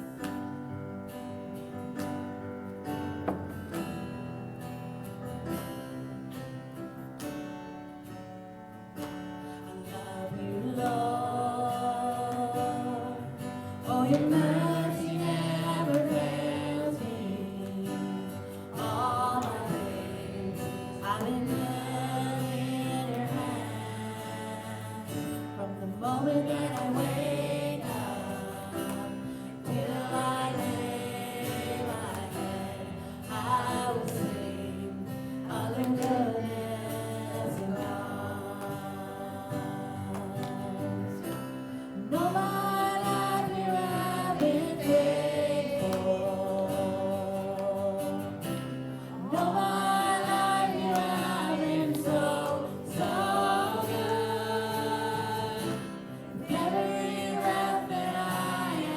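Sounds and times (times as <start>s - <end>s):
guitar accompaniment: 0.0s - 58.9s
voices singing together: 0.0s - 58.9s.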